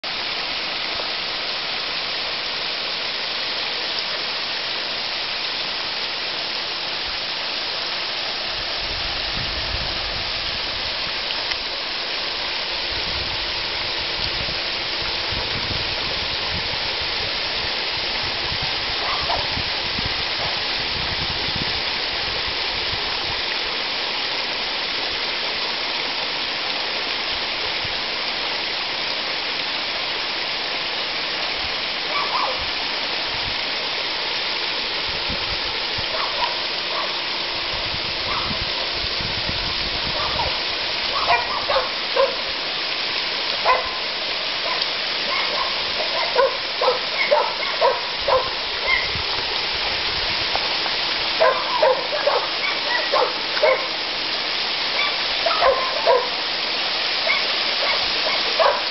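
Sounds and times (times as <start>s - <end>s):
waterfall splashing over stone: 0.0s - 58.9s.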